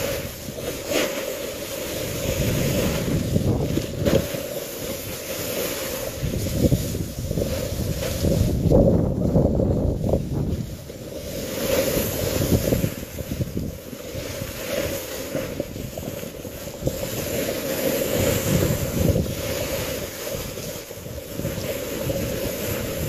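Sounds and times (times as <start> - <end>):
snowboard scraping over snow: 0.0 - 23.0
wind rushing over microphone: 0.0 - 23.0.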